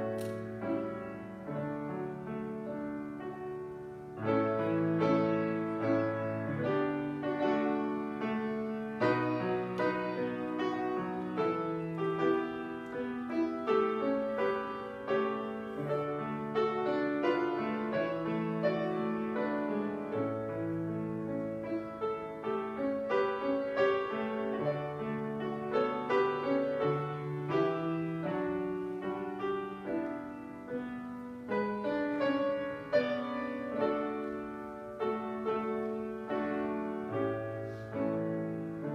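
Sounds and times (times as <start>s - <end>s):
piano playing slow chords: 0.0s - 38.9s.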